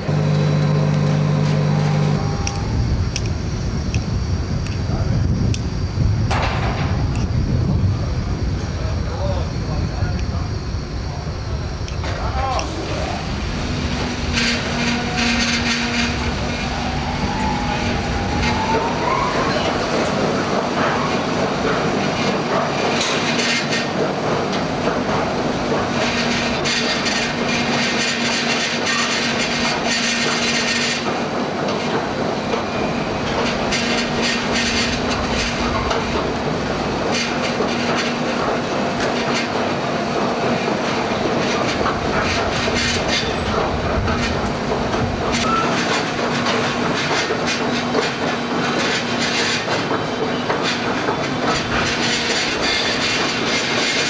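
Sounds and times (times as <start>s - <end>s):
heavy machinery hum: 0.0s - 54.0s.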